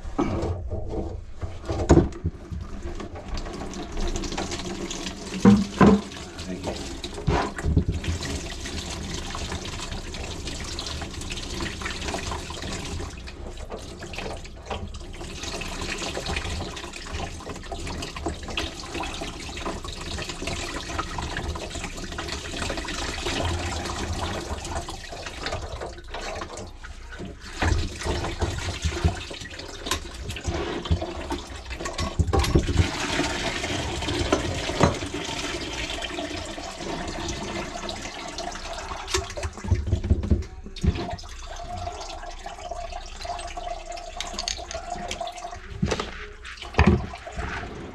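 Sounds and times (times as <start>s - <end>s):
water splashing into plastic bucket: 1.6s - 47.9s.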